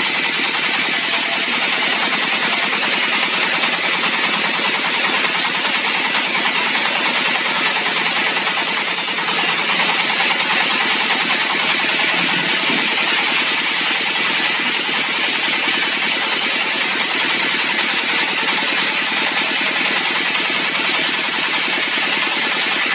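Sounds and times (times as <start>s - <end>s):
sawmill engine running: 0.0s - 22.9s.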